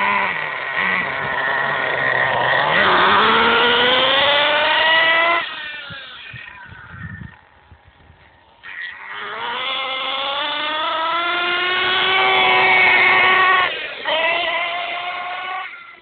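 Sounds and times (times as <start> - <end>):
model truck engine revving: 0.0 - 7.6, 8.6 - 16.0.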